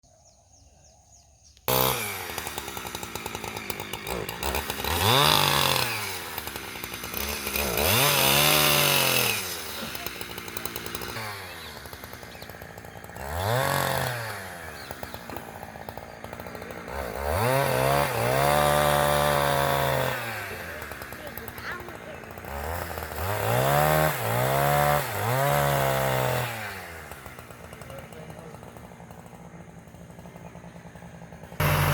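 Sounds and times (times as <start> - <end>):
heavy vehicle engine revving: 1.7 - 31.9.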